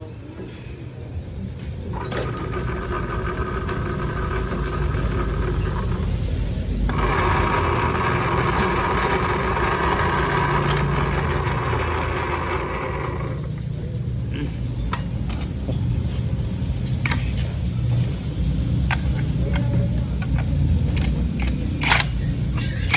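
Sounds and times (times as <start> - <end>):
transmission whine: 1.9 - 22.9.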